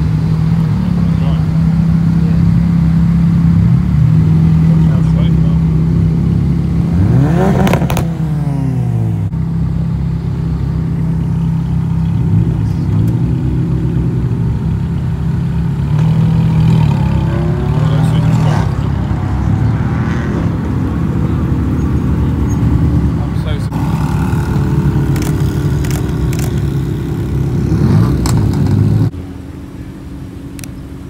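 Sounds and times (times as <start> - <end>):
sports car engines driving past: 0.0 - 31.0.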